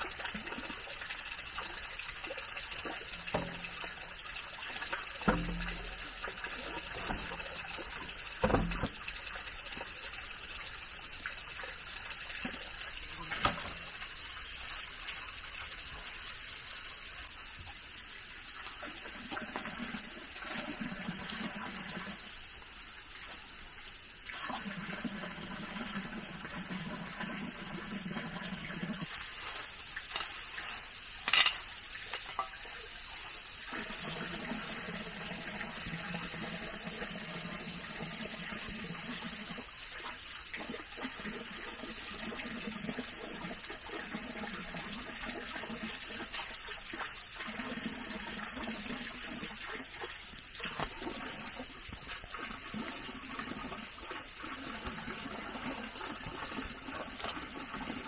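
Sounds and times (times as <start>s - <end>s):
water running and splashing: 0.0s - 58.0s.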